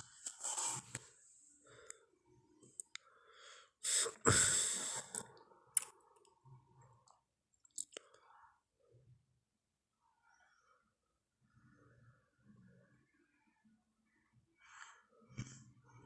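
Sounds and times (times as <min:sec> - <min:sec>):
soft breathy sounds: 0:00.0 - 0:16.0.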